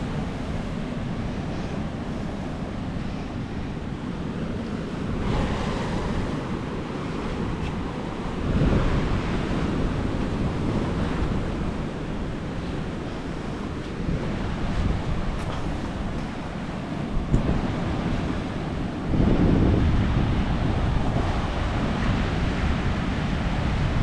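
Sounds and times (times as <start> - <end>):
sea waves breaking over rocks: 0.0 - 24.0
wind buffeting microphone: 0.0 - 24.0.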